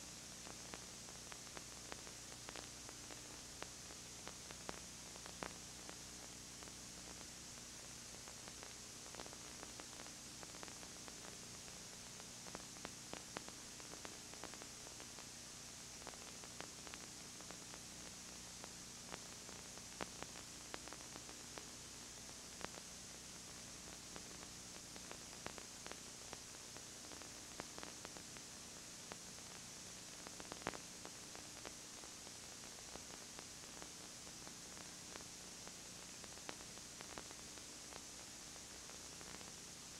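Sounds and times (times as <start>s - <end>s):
tape hiss: 0.0s - 39.9s.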